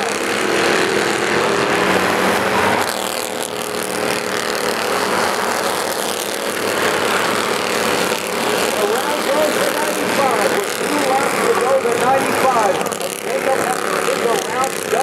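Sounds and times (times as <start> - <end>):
race car engines buzzing: 0.0 - 15.0.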